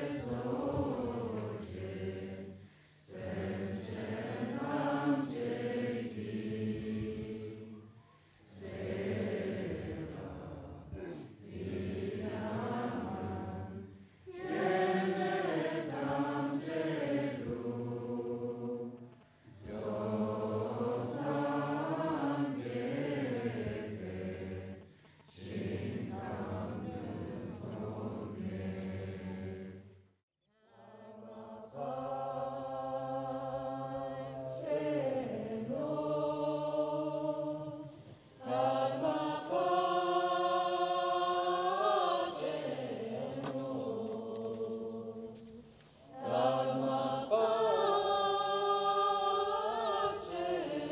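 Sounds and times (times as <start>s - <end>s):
voices chanting in unison: 0.0s - 30.0s, 30.6s - 50.9s.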